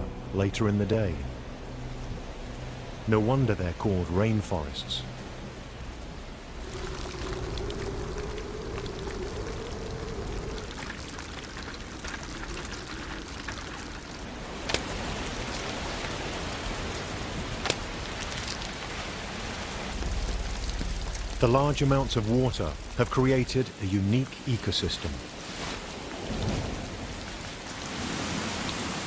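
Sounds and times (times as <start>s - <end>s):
heavy rain on foliage: 0.0s - 29.0s.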